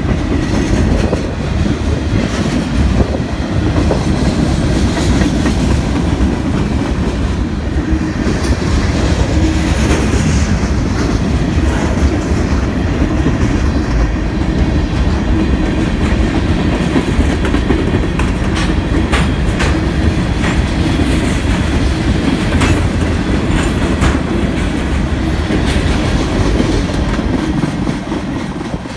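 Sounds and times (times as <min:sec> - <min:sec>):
steel wheels rumbling on rail: 0:00.0 - 0:28.9
wheels clacking over rail joints: 0:00.0 - 0:28.9.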